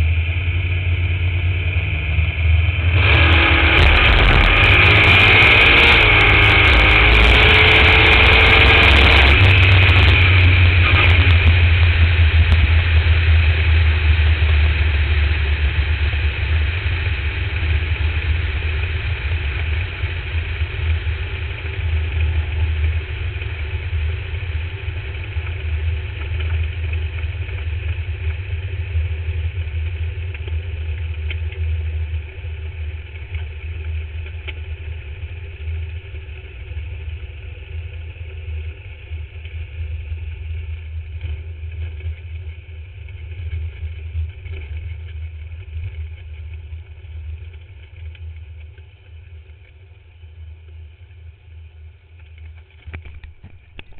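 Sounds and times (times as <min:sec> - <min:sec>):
racing car engine rumbling: 0:00.0 - 0:53.9.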